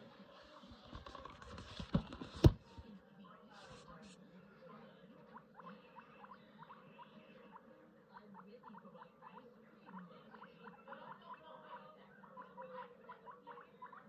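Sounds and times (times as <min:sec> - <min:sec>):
guinea pigs chewing hay: 0:00.0 - 0:14.0.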